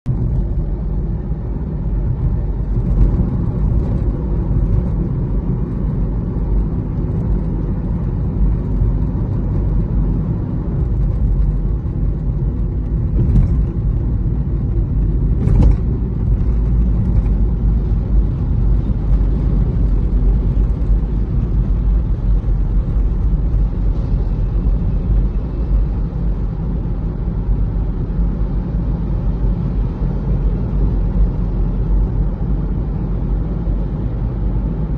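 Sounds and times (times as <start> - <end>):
car cabin road and engine rumble: 0.0 - 34.9.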